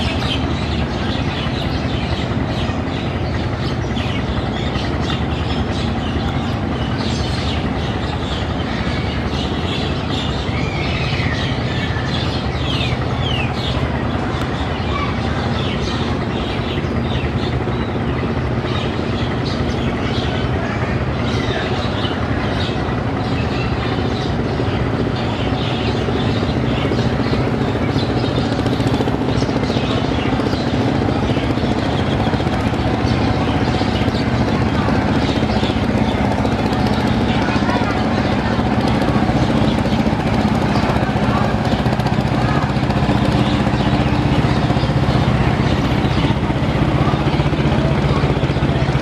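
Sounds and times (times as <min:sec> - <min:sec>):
birds chirping: 0:00.0 - 0:49.0
boat diesel engines droning: 0:00.0 - 0:49.0.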